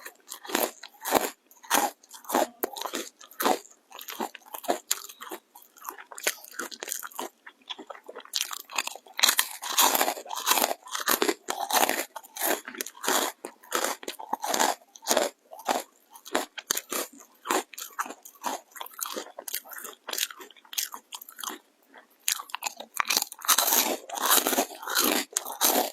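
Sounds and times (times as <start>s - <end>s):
crunching of crisps being chewed: 0.0s - 25.9s.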